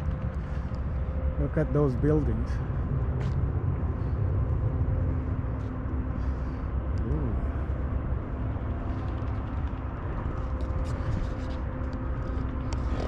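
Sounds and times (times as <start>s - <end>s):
faint engine hum: 0.0s - 13.0s
low rumble: 0.0s - 13.0s.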